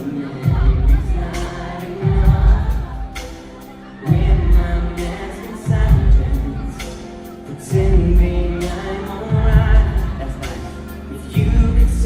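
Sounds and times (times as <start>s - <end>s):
heavy low beat: 0.0s - 12.0s
live pop band playing: 0.0s - 12.0s
person singing: 0.0s - 12.0s.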